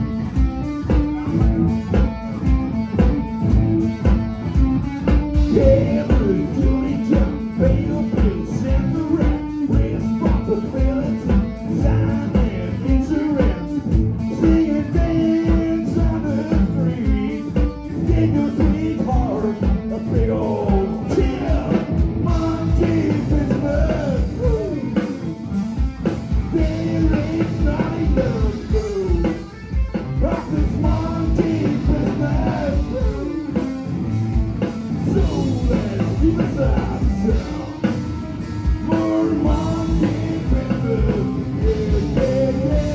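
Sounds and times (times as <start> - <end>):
drum kit: 0.0 - 42.9
electric guitar: 0.0 - 42.9
person singing: 5.4 - 25.3, 26.3 - 29.6, 30.2 - 33.8, 35.0 - 42.9.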